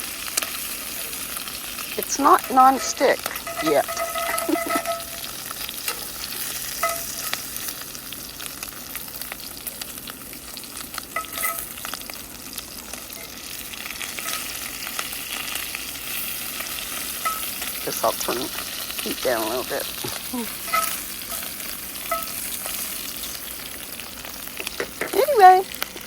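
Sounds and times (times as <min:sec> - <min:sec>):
bacon sizzling in a pan: 0:00.0 - 0:26.0.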